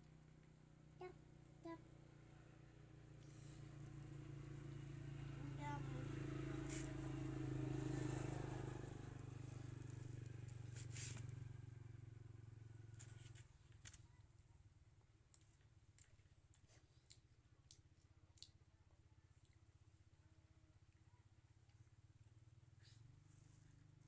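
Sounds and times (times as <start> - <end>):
faint low hum: 0.0 - 7.3, 7.9 - 24.0.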